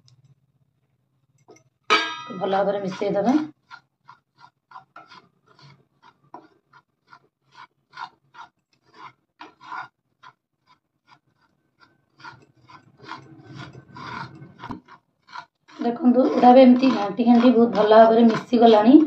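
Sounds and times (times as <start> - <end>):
wooden spatula scraping a pan: 1.9 - 19.0.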